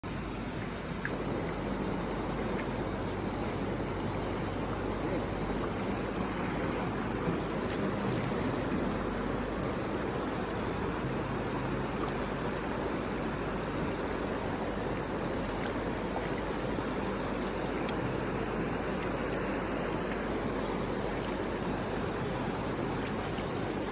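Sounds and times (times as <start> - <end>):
river rushing over stones: 0.1 - 23.9.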